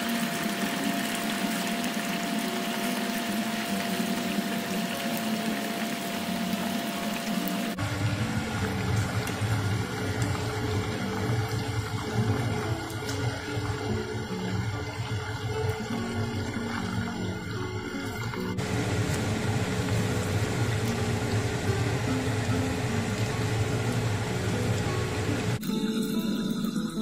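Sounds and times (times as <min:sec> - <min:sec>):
oil sizzling in deep fryer: 0:00.0 - 0:25.6.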